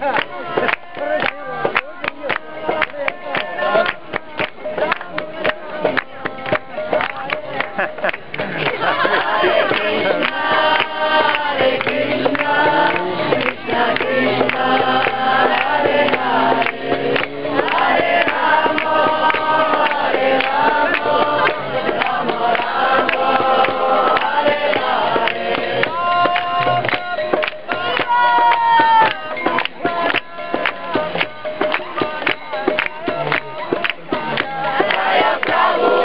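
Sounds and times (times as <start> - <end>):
group singing devotional chant: 0.0 - 36.0
rapid percussion strikes: 0.0 - 36.0.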